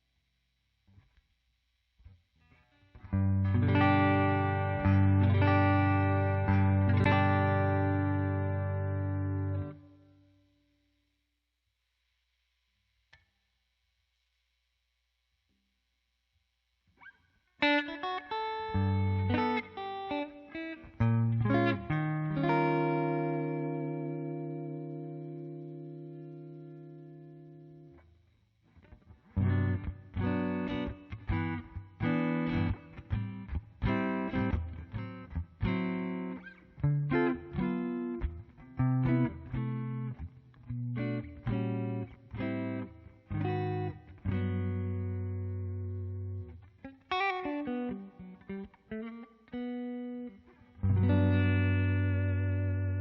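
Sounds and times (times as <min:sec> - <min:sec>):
electric guitar notes and chords: 0:02.4 - 0:10.2, 0:17.0 - 0:28.1, 0:28.8 - 0:53.0.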